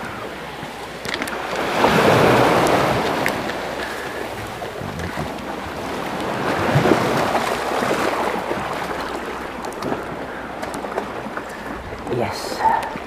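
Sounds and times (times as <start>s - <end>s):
waves splashing against boulders: 0.0s - 13.0s
wind buffeting microphone: 0.0s - 13.0s.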